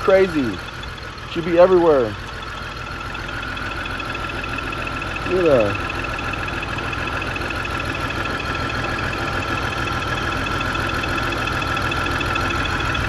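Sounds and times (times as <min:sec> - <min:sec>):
misfiring car engine idling: 0:00.0 - 0:13.0
steady high whine: 0:00.0 - 0:13.0.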